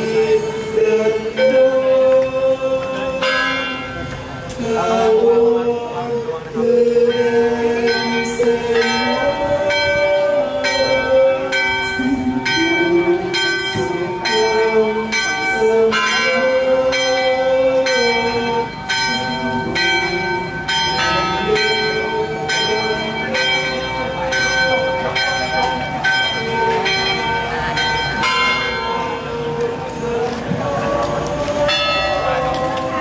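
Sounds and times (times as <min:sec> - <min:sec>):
church bell ringing: 0:00.0 - 0:33.0
slow melody of held notes: 0:00.0 - 0:33.0.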